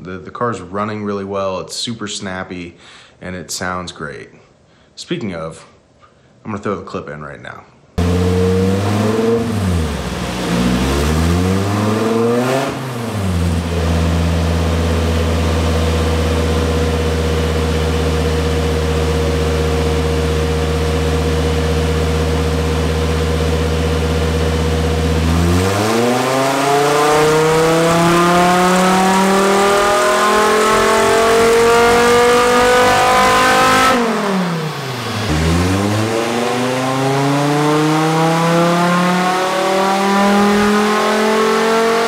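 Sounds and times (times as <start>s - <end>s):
car engine revving on dyno: 8.0s - 42.0s.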